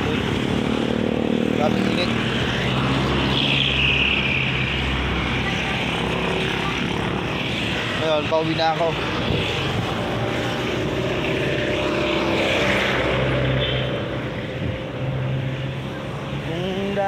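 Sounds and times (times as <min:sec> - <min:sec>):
traffic noise: 0:00.0 - 0:17.0
vehicle engine drone: 0:00.0 - 0:17.0.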